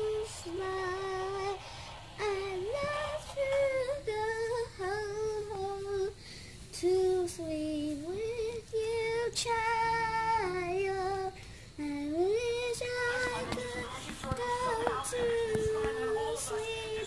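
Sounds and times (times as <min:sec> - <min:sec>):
girl singing wordless notes: 0:00.0 - 0:17.0.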